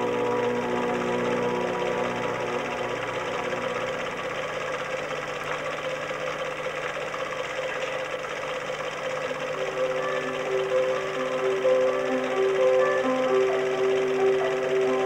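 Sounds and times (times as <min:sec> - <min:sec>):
faint sustained music: 0:00.0 - 0:06.8, 0:09.0 - 0:15.0
film projector whirring and clatter: 0:00.0 - 0:15.0.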